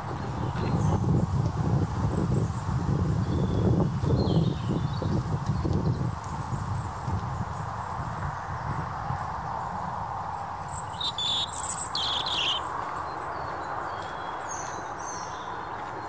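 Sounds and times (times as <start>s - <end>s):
songbirds chirping: 2.2s - 16.0s.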